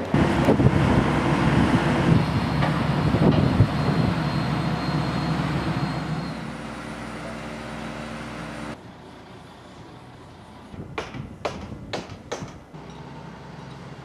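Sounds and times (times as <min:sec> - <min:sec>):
crane engine running: 0:00.0 - 0:14.0.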